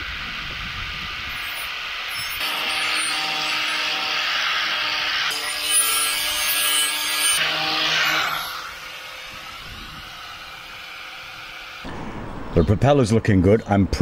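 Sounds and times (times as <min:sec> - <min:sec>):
angle grinder sanding metal: 0:00.1 - 0:11.8.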